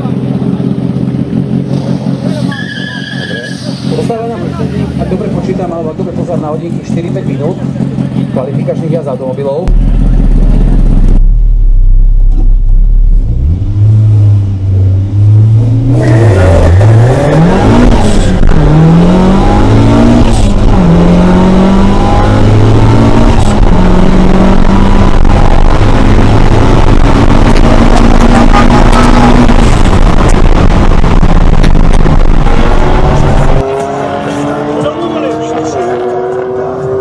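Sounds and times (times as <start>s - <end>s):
drag car engine revving: 0.0s - 37.0s.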